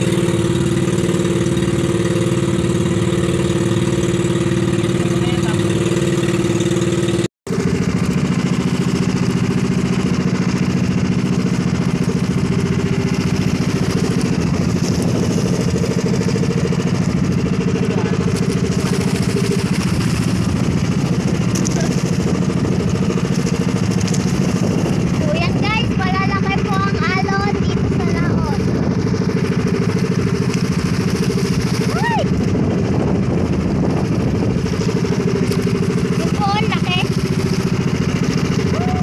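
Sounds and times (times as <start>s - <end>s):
boat engine running: 0.0s - 39.0s.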